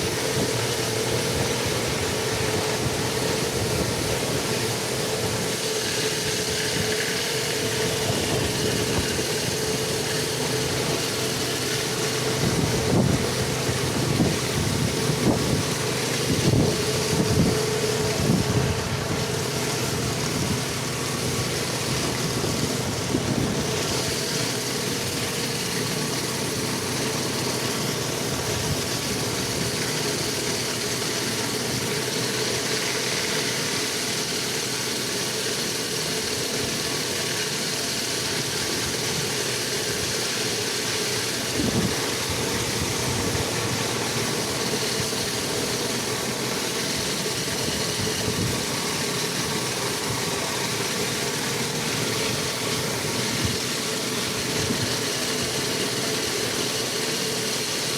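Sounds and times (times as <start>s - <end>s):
pressure washer engine running: 0.0s - 57.9s.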